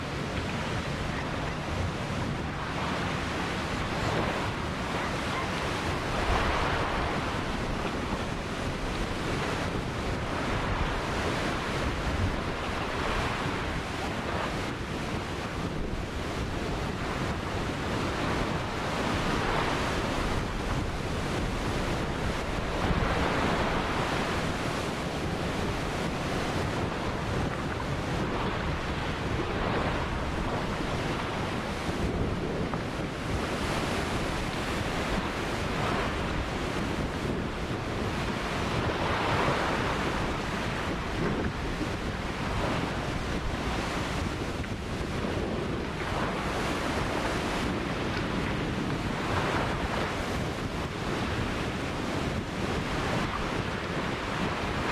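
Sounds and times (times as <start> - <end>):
ocean surf washing ashore: 0.0 - 54.9.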